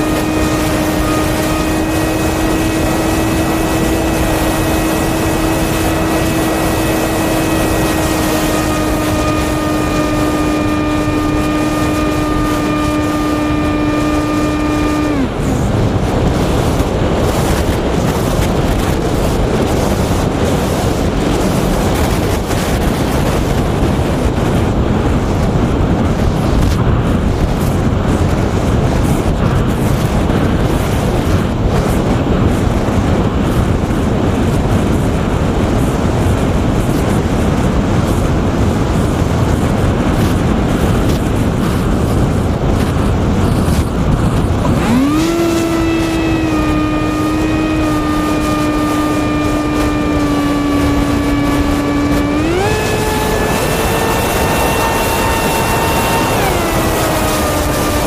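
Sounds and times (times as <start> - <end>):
electric motor and propeller spinning: 0.0 - 58.0
wind rushing over microphone: 0.0 - 58.0.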